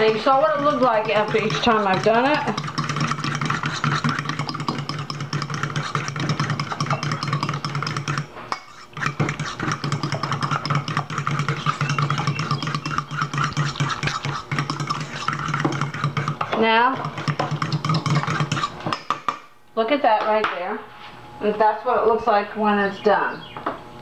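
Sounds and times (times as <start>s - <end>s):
fork beating in metal bowl: 0.0s - 19.5s.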